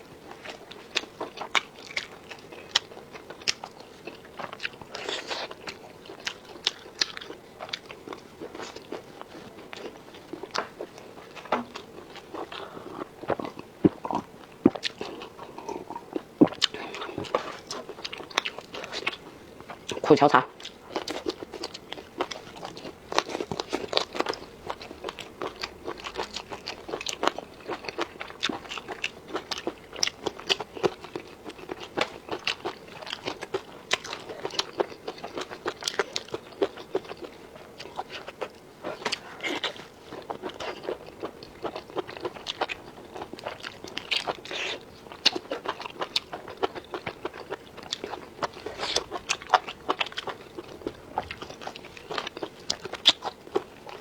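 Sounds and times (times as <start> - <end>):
person crunching and chewing: 0.1 - 54.0.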